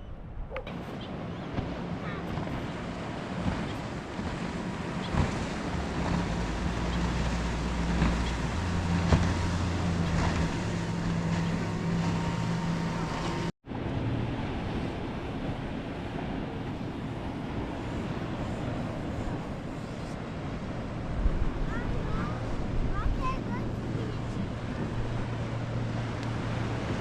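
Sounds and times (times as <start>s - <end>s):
low motor hum: 0.0s - 27.0s
surf at shore: 0.0s - 27.0s
wind on microphone: 0.0s - 27.0s.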